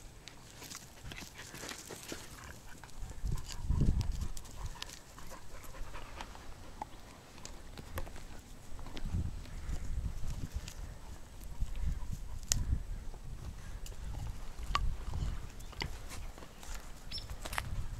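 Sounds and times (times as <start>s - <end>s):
twigs crackling: 0.0s - 17.9s
dogs snuffling and panting: 0.3s - 17.8s.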